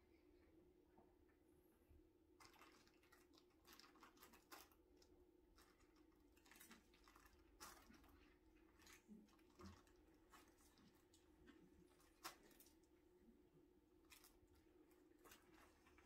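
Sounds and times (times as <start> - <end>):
fabric tunnel crinkling and rustling: 2.4 - 13.4, 14.0 - 16.0.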